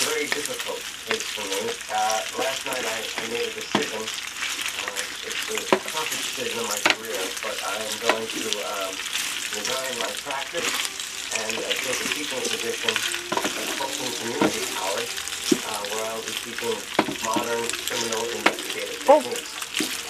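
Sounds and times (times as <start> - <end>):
pasta sizzling in a pan: 0.0 - 20.0.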